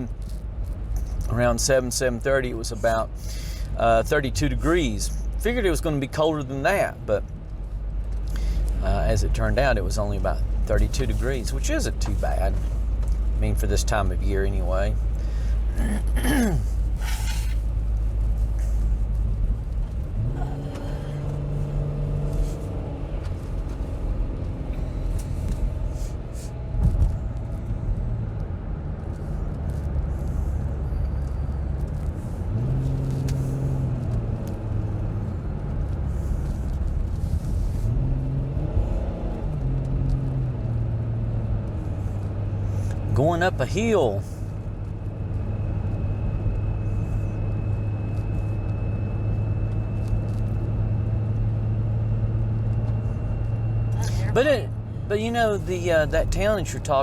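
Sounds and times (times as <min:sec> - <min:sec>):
car engine: 0:00.0 - 0:57.0
road rumble: 0:00.0 - 0:57.0.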